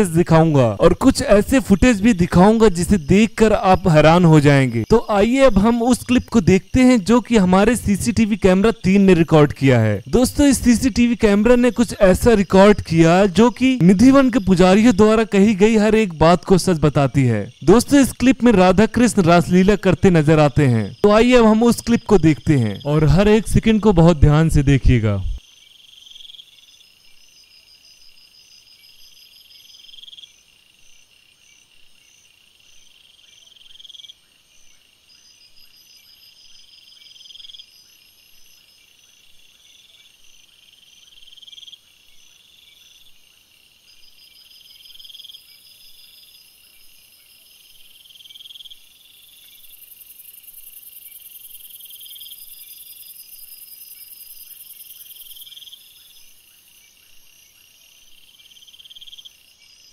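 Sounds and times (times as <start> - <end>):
night insects chirping: 0.0 - 59.9.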